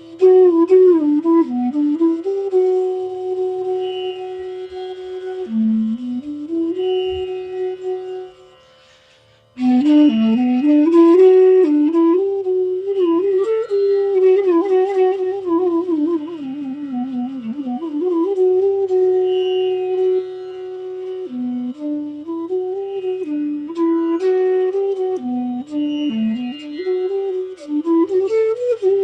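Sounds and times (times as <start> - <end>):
bamboo flute melody: 0.0 - 29.0.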